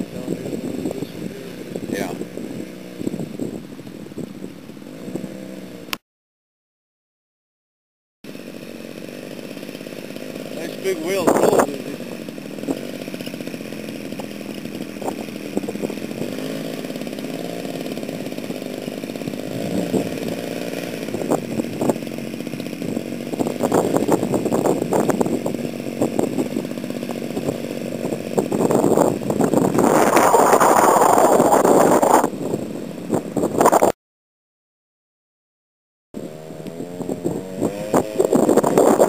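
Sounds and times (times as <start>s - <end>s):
model plane engine running: 0.0s - 5.9s, 8.3s - 33.9s, 36.2s - 39.0s.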